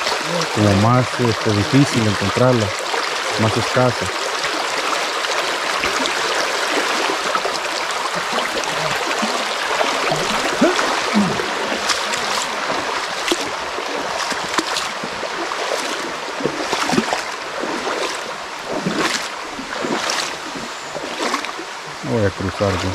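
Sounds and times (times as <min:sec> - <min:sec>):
creek water over rocks: 0:00.0 - 0:22.9.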